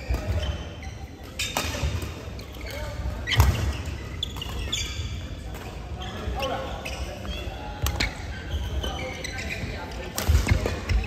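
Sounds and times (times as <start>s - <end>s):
shoes squeaking: 0.0s - 11.0s.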